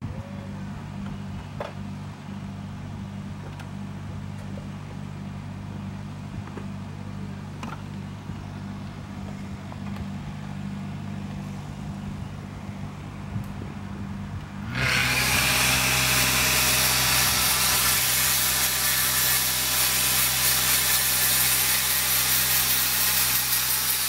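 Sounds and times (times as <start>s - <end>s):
engine running with low hum: 0.0s - 24.0s.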